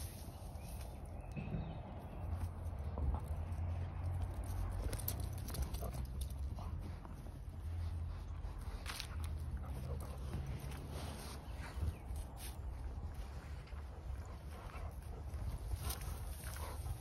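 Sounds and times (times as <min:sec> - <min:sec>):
puppy moving on grass: 0:00.0 - 0:17.0.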